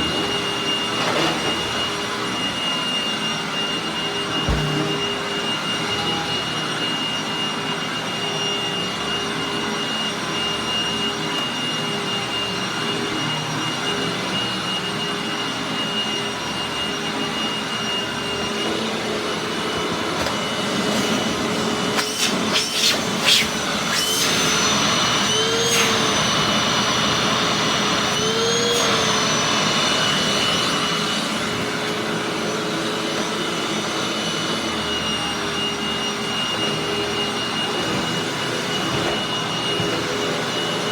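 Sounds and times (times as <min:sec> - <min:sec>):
vacuum cleaner whine: 0:00.0 - 0:40.9.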